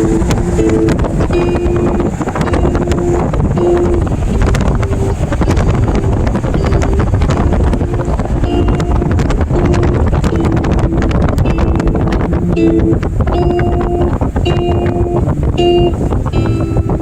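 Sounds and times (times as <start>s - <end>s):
melody notes: 0.0s - 17.0s
wind buffeting microphone: 0.0s - 17.0s.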